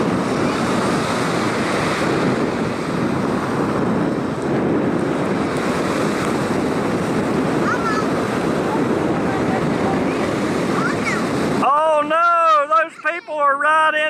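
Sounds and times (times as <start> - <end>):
ocean surf washing ashore: 0.0 - 14.0
wind buffeting microphone: 0.0 - 14.0.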